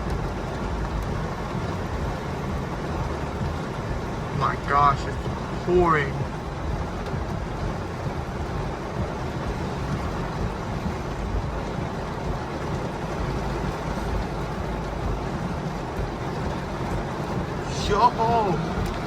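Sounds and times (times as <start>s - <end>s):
heavy rain on a car: 0.0s - 19.0s
tyre noise on wet road: 0.0s - 19.0s.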